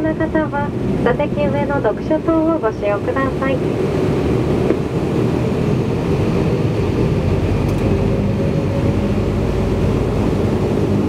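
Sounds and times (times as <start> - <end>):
aircraft engine rumble in cabin: 0.0 - 11.0
steady engine hum: 0.0 - 11.0.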